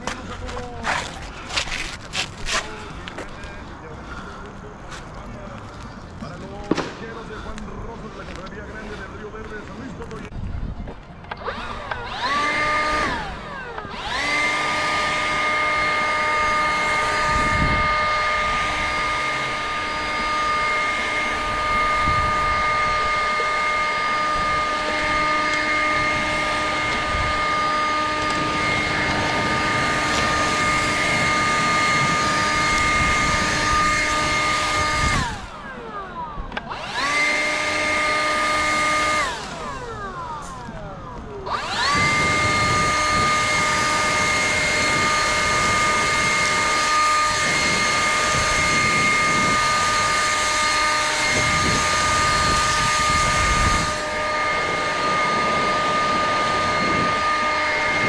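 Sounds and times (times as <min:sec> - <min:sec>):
small electric motor whining: 0:00.0 - 0:58.0.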